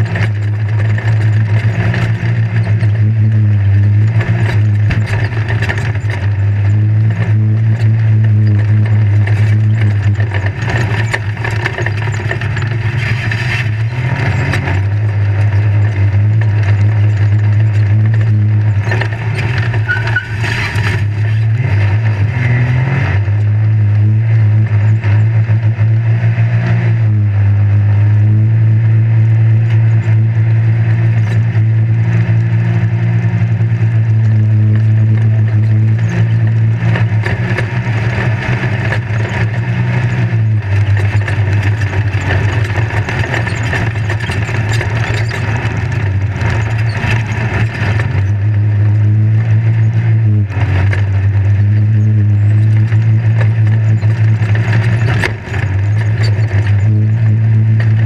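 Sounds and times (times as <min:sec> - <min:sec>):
chassis rattling over dirt: 0:00.0 - 0:58.0
race vehicle engine running: 0:00.0 - 0:58.0
wind and ground noise: 0:00.0 - 0:58.0.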